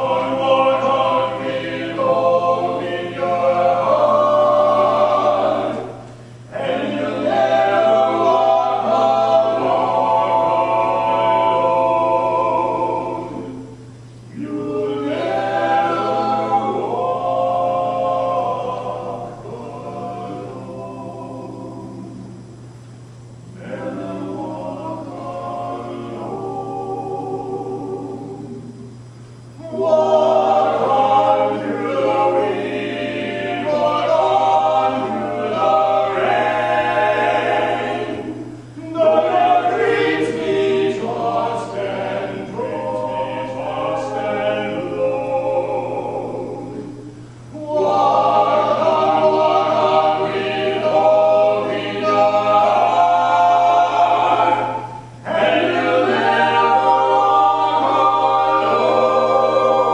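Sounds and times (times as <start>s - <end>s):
male vocal quartet singing: 0.0s - 22.5s, 23.4s - 59.9s.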